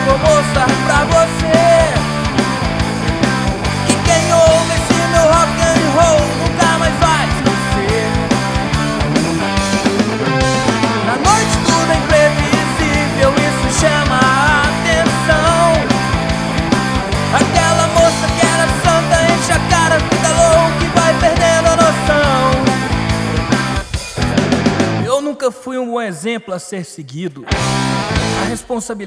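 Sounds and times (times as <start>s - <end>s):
bass: 0.0s - 25.1s, 27.5s - 28.6s
drum beat: 0.0s - 25.1s, 27.5s - 29.0s.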